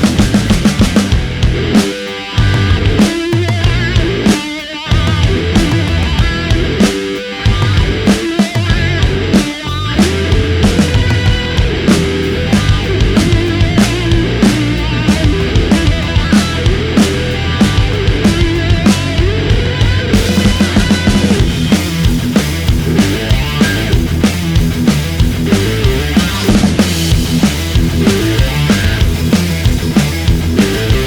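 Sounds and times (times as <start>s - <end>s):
rock music with drums and guitar: 0.0s - 31.0s.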